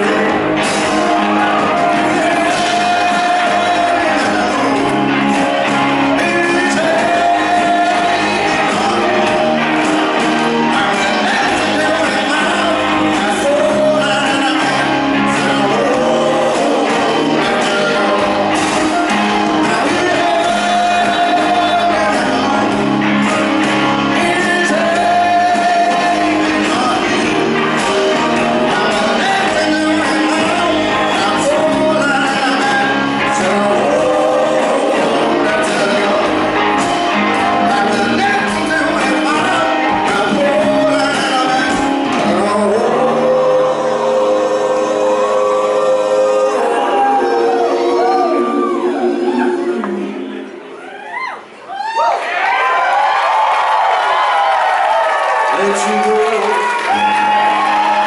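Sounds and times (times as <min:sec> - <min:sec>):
male lead vocal singing: 0:00.0 - 0:50.6, 0:55.5 - 0:58.0
live rock band playing: 0:00.0 - 0:50.8, 0:52.5 - 0:58.0.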